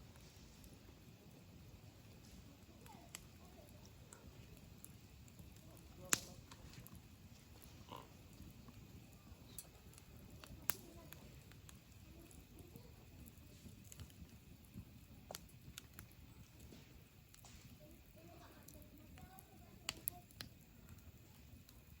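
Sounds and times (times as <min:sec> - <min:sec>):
burning wood popping: 0:00.0 - 0:22.0
campfire crackling: 0:00.0 - 0:22.0.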